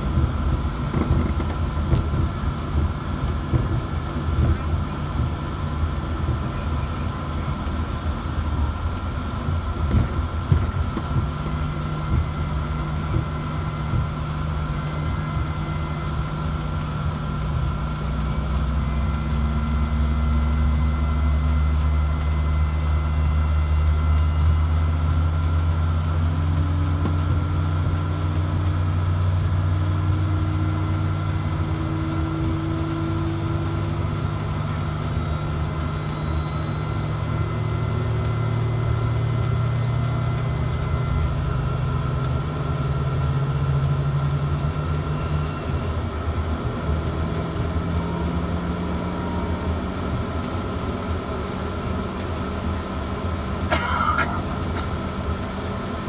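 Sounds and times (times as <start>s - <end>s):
high engine whines: 0.0s - 56.0s
jet engines hum in cabin: 0.0s - 56.0s.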